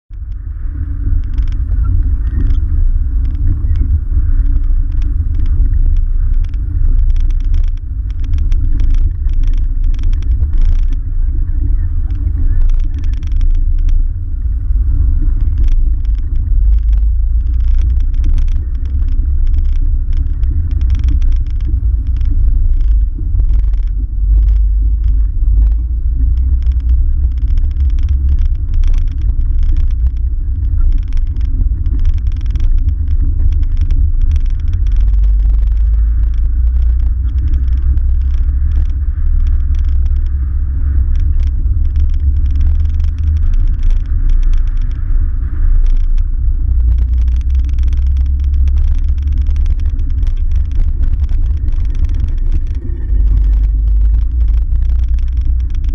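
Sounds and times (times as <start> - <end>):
deep rumble: 0.0 - 55.9
camera clicking and rattling: 0.2 - 55.9.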